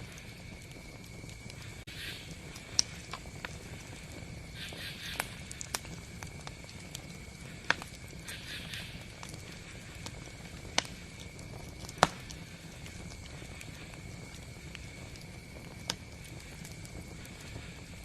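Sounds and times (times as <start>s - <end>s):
campfire rumbling: 0.0s - 18.0s
wood crackling and popping: 0.0s - 18.0s.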